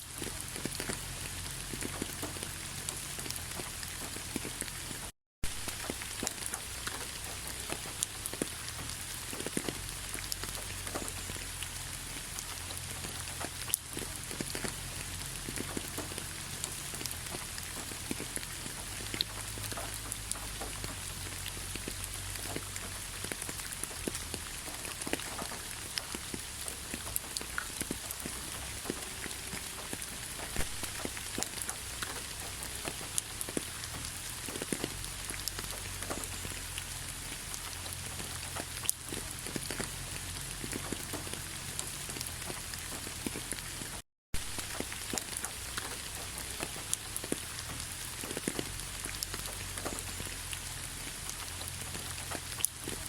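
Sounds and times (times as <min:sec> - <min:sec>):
rain hissing: 0:00.0 - 0:53.0
raindrops ticking: 0:00.0 - 0:53.0.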